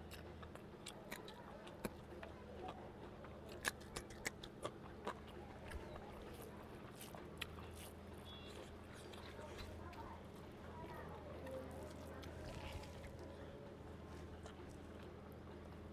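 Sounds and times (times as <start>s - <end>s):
man chewing with mouth clicks: 0.0s - 15.9s.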